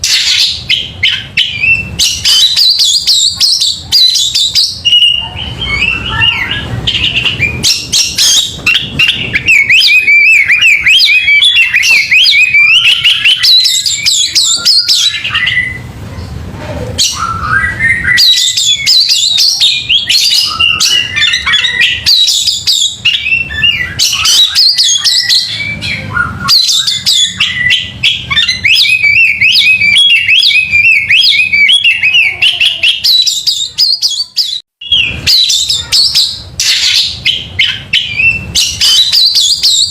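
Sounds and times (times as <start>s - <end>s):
bird singing whistles and chatter: 0.0s - 15.9s, 17.0s - 39.9s.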